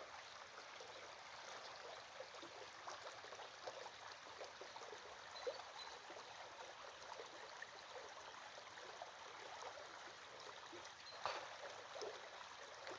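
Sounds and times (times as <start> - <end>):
small stream trickling: 0.0 - 12.9.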